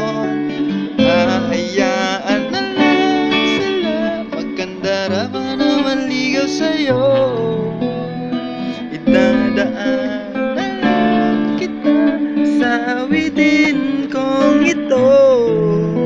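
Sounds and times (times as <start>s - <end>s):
acoustic guitar strumming chords: 0.0s - 16.0s
person singing: 0.0s - 16.0s.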